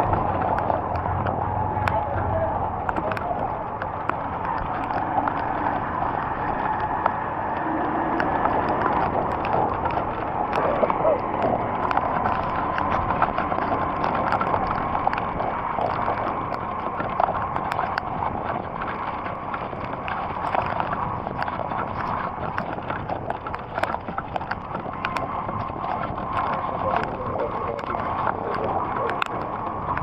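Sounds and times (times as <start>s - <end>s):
heavy rain on hard surface: 0.0s - 30.0s.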